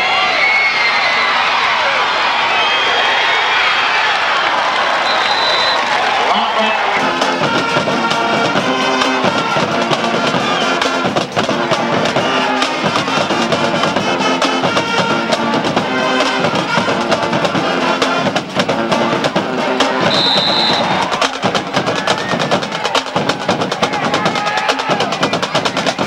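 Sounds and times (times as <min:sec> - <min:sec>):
band with brass and drums: 0:04.7 - 0:26.0.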